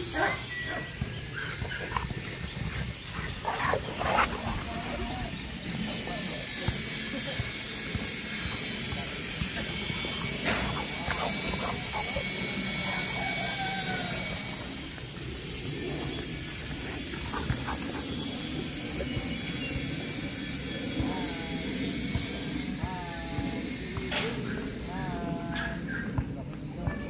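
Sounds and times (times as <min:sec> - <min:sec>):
distant indistinct voices: 0:00.0 - 0:27.0.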